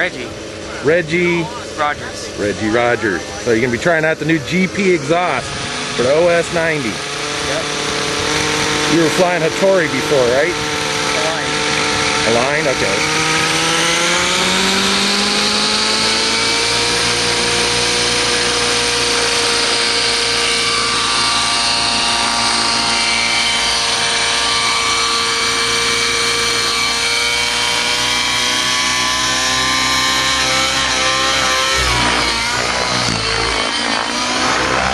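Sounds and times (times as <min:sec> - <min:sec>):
model helicopter engine buzzing: 0:00.0 - 0:34.9.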